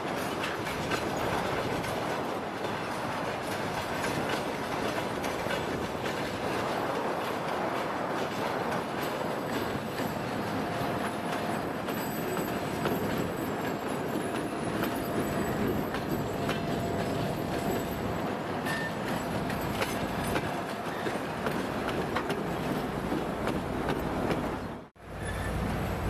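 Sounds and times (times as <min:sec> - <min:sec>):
train wheel clicks: 0:00.0 - 0:24.5.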